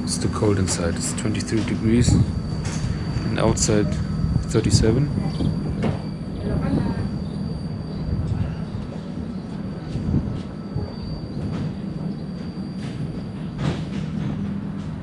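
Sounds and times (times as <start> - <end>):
diesel train engine idling: 0.0 - 15.0.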